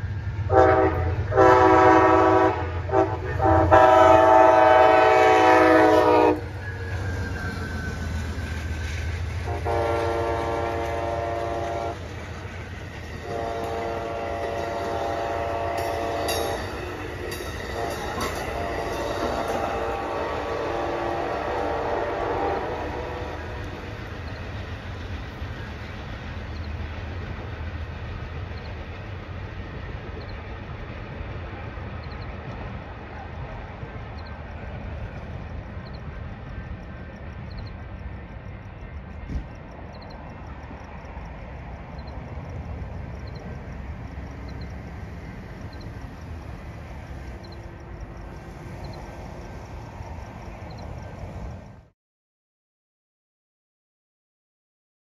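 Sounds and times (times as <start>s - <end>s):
train wheel and track noise: 0.0s - 51.9s.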